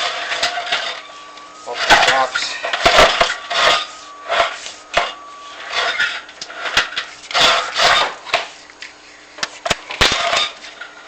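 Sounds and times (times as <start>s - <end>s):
rod scraping in a flue: 0.0s - 9.2s.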